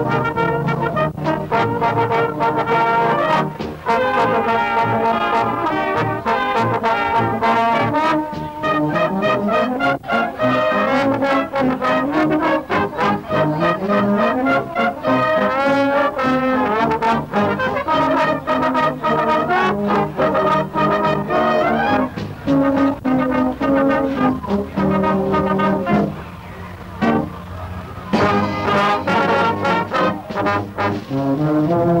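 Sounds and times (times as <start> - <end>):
brass instruments playing a tune: 0.0 - 32.0.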